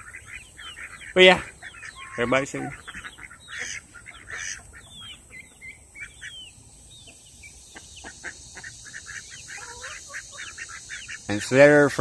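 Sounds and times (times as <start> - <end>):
ducks and chickens calling: 0.0 - 12.0.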